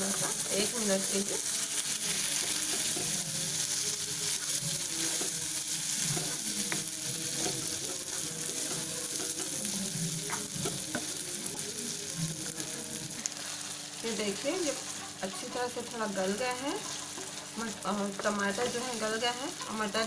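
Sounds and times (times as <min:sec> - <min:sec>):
wooden spatula stirring in pan: 0:00.0 - 0:19.7
vegetables sizzling in oil: 0:00.0 - 0:20.0.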